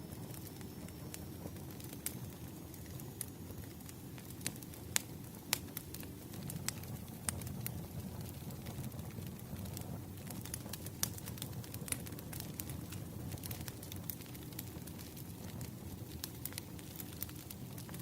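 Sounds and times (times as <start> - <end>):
campfire crackling: 0.0 - 18.0
fire popping and snapping: 0.0 - 18.0.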